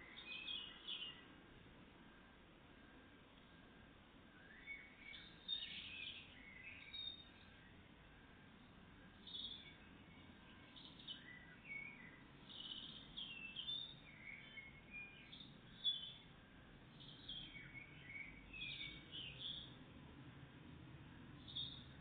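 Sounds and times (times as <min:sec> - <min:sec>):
songbirds chirping and twittering: 0:00.0 - 0:22.0.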